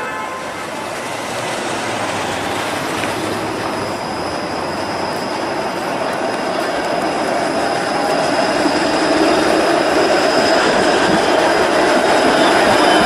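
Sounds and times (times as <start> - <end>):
streetcar rolling rumble: 0.0 - 13.0.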